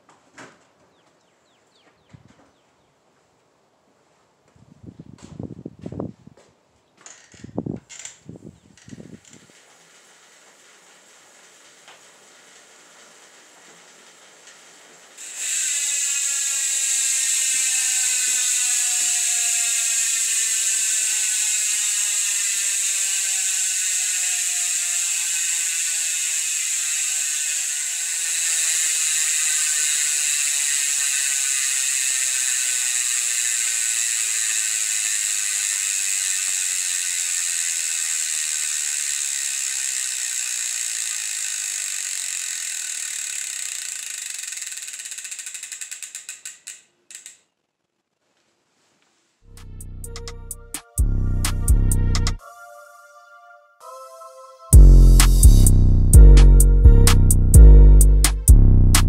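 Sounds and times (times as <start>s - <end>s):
bicycle hub ratchet buzzing: 7.0s - 47.6s, 49.5s - 52.4s, 54.7s - 59.0s.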